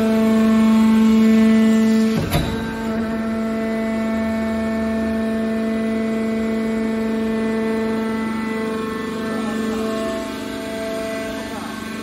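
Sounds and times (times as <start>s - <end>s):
hydraulic pump motor humming: 0.0s - 12.0s.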